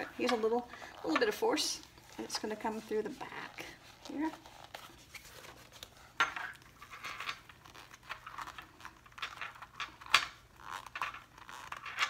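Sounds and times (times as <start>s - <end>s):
vinyl material rustling and scraping: 0.0s - 12.0s.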